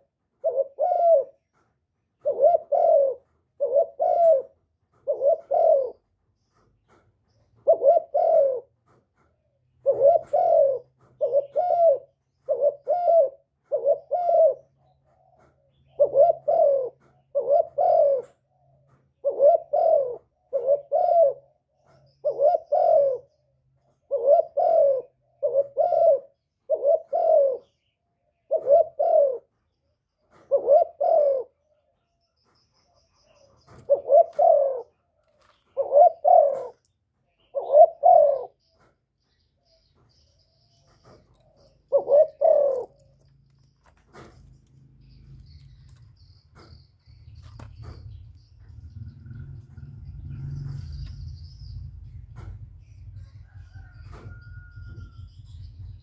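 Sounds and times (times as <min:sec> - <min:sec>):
dove cooing: 0:00.0 - 0:32.2, 0:33.0 - 0:39.0, 0:39.7 - 0:56.0.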